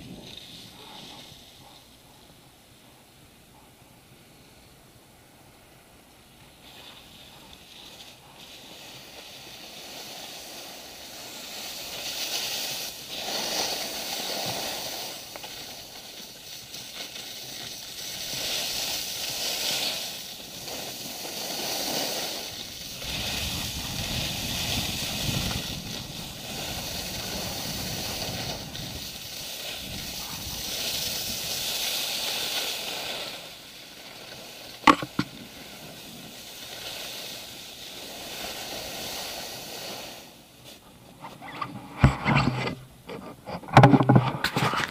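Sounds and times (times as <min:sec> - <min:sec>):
skis scraping on snow: 0:00.0 - 0:01.9, 0:06.4 - 0:44.9.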